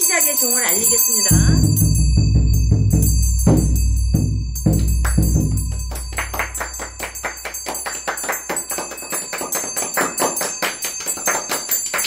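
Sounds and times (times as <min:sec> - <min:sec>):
brass handbell ringing: 0:00.0 - 0:12.0.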